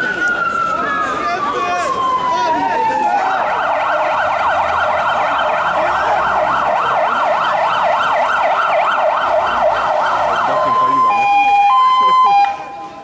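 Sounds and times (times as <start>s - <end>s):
fire engine siren yelping: 0.0s - 13.0s.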